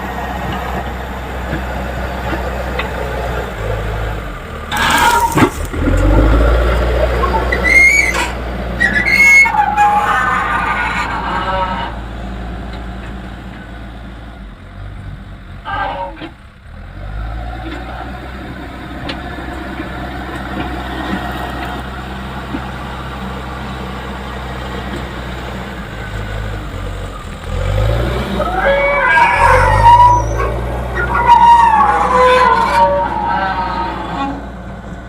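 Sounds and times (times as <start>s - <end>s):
diesel engine under load: 0.0s - 35.0s.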